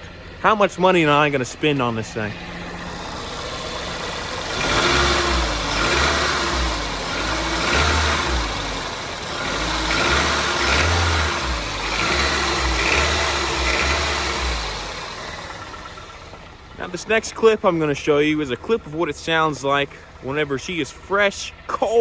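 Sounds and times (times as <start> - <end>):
car engine revving: 0.0 - 20.8.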